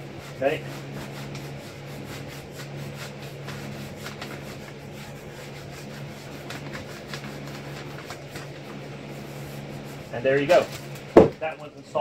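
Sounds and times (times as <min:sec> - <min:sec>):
paper backing peeling: 0:00.0 - 0:11.9
hands rubbing foam mat: 0:00.0 - 0:12.0
steady low hum: 0:00.0 - 0:12.0.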